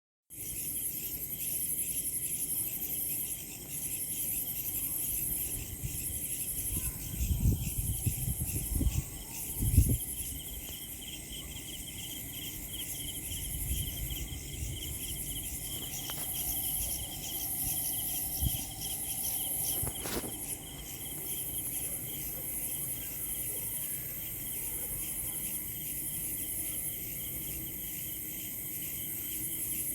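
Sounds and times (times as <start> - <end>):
insects trilling: 0.3 - 29.9.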